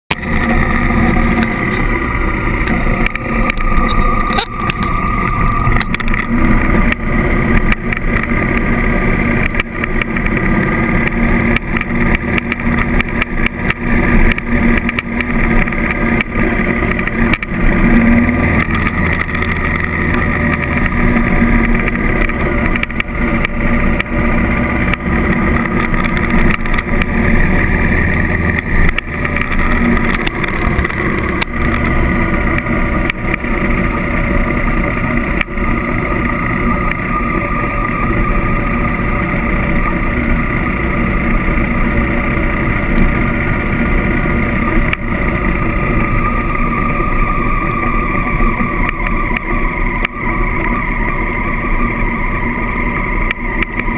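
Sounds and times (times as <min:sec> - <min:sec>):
motorcycle engine running: 0:00.1 - 0:53.9.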